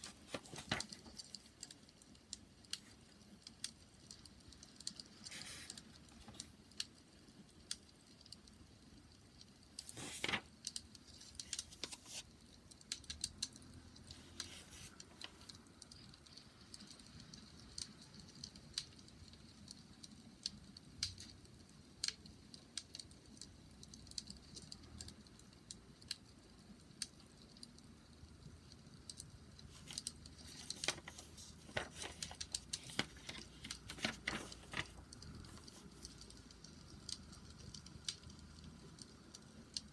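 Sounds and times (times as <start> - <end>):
wood fire crackling: 0.0 - 24.5, 25.2 - 39.9.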